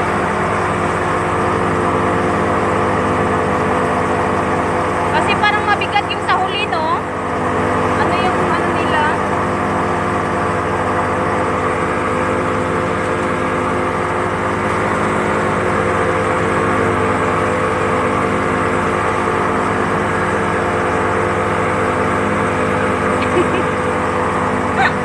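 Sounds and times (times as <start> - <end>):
outboard engine droning: 0.0 - 25.0.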